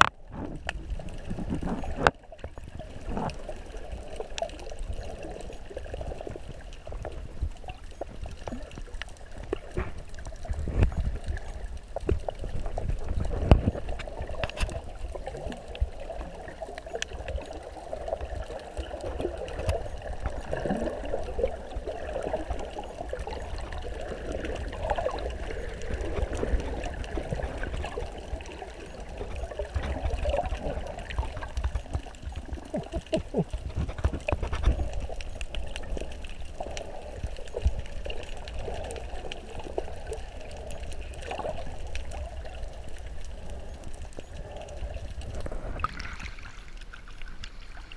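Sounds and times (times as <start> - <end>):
low underwater rumble: 0.0 - 47.9
water bubbling underwater: 0.0 - 47.9.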